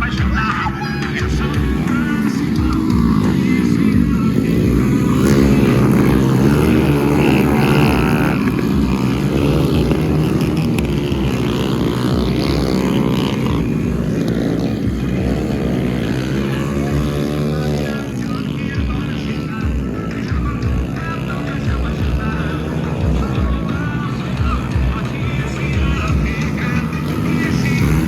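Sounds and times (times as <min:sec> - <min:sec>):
motorcycle engines racing: 0:00.0 - 0:28.0.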